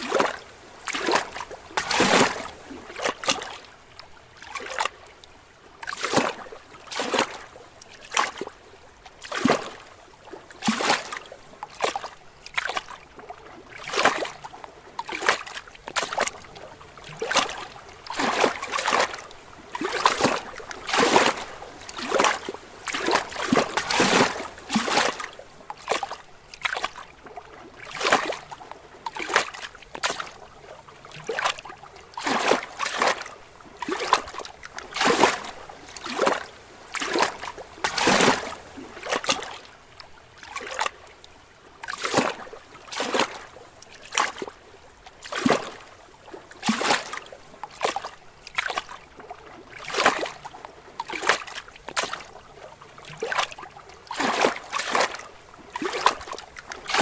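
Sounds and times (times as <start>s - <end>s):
waves lapping against rocks: 0.0s - 57.0s.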